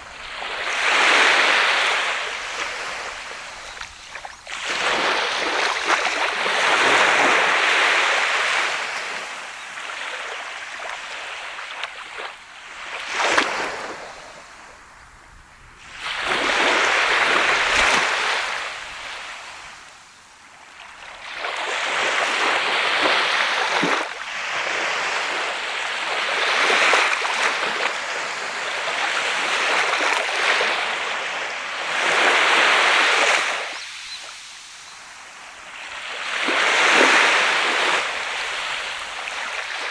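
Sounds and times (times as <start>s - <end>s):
sea waves washing up beach: 0.0s - 15.0s, 15.8s - 20.0s, 21.2s - 39.9s.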